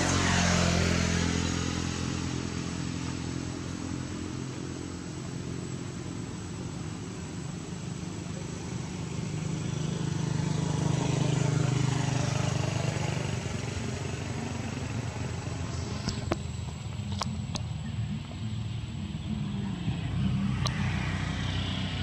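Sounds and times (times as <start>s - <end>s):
vehicle engine passing: 0.0s - 22.0s.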